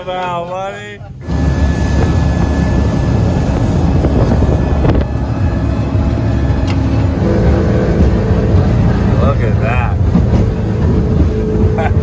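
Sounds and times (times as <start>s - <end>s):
boat engine drone: 1.0s - 12.0s
wind buffeting microphone: 1.4s - 12.0s.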